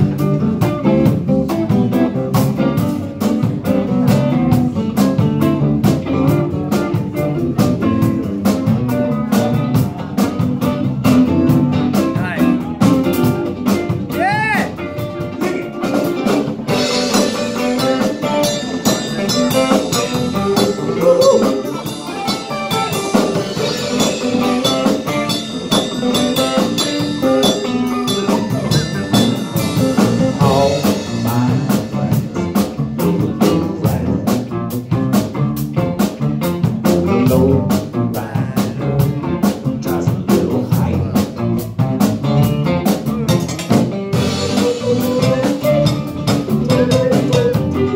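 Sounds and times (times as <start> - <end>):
drum kit steady beat: 0.0 - 47.9
electric and acoustic guitars: 0.0 - 47.9.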